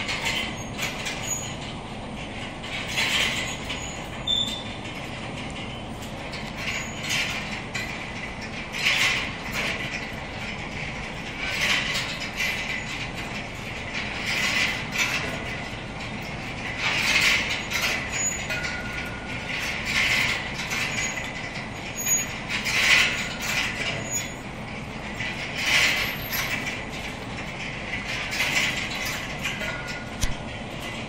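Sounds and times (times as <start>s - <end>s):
steady conveyor mechanical noise: 0.0s - 31.0s
wire baskets rattling and clanking: 0.0s - 31.0s.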